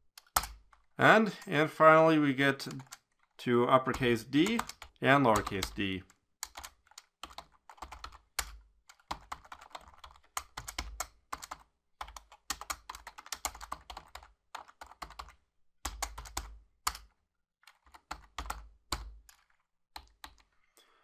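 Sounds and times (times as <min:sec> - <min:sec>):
computer keyboard typing: 0:00.2 - 0:00.9, 0:02.7 - 0:20.5.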